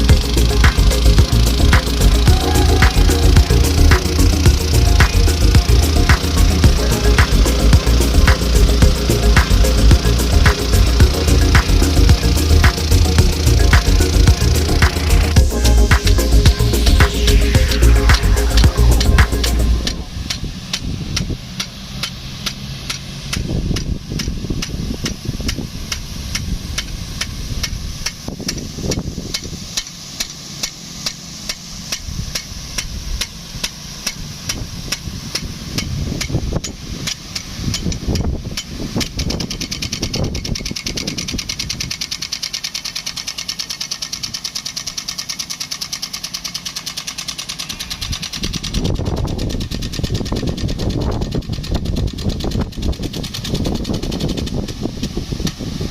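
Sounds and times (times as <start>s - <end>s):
pump engine running: 0.0s - 55.9s
sprinkler arm clacking: 0.0s - 55.9s.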